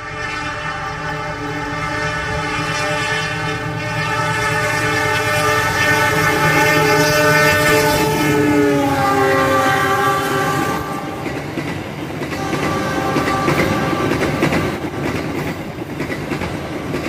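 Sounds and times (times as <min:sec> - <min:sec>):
locomotive horn blast: 0:00.0 - 0:11.3, 0:12.3 - 0:14.8.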